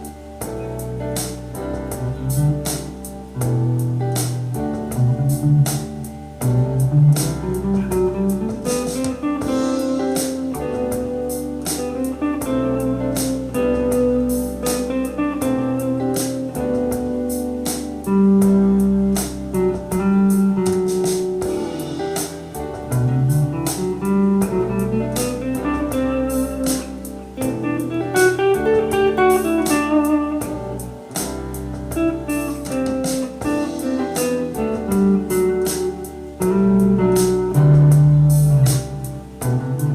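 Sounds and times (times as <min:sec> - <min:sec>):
backing track with drums: 0:00.0 - 0:39.9
electric guitar lead lines: 0:00.0 - 0:39.9.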